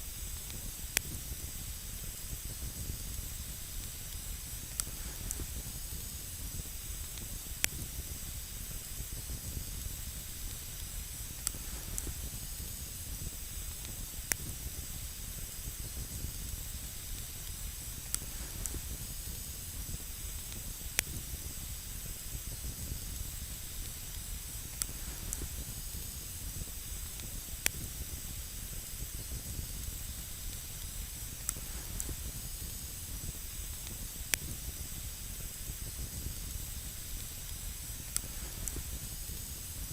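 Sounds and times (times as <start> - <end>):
campfire hissing and rumbling: 0.0 - 39.9
burning wood crackling and popping: 0.1 - 39.9.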